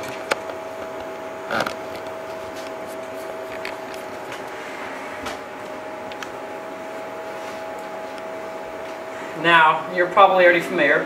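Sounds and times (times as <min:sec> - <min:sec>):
mechanical hum with whine: 0:00.0 - 0:11.0.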